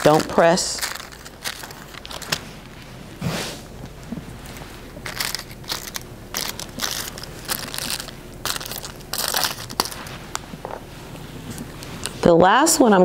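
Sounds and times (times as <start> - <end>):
foil crinkling: 0.0 - 12.2.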